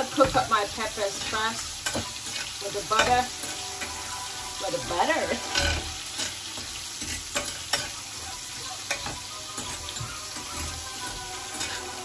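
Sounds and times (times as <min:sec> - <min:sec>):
peppers sizzling in a pan: 0:00.0 - 0:12.0.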